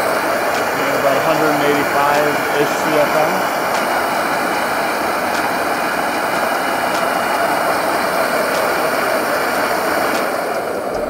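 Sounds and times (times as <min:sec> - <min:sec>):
blower rushing air: 0:00.0 - 0:11.0.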